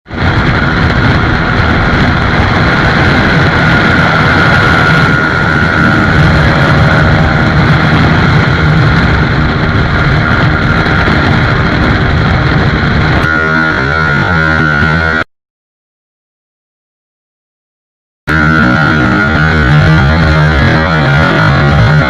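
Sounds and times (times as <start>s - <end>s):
motorcycle engine at speed: 0.0s - 15.3s, 18.3s - 22.0s.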